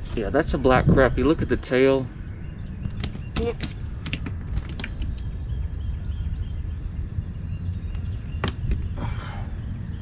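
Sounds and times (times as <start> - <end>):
faint birdsong: 0.0 - 10.0
wind buffeting microphone: 0.0 - 10.0.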